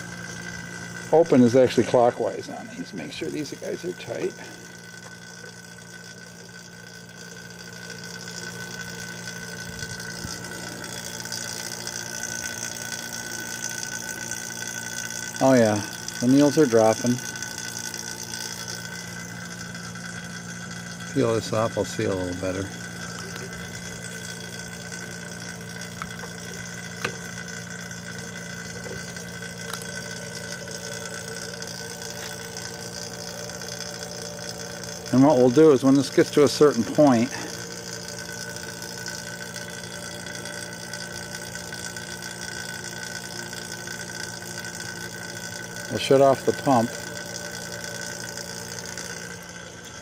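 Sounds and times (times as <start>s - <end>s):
vacuum pump humming and hissing: 0.0s - 50.0s.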